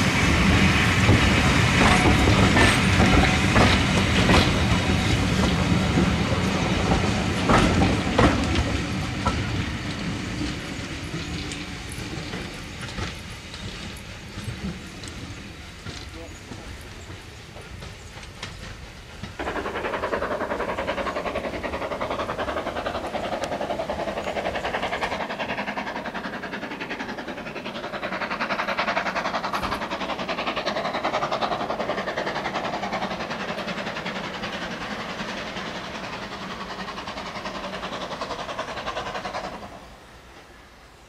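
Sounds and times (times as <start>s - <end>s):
train wheels rattling over rails: 0.0s - 40.6s.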